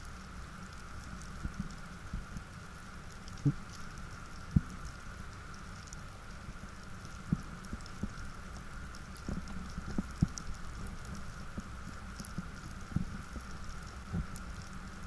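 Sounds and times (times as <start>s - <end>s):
underwater rumble and hiss: 0.0s - 15.0s.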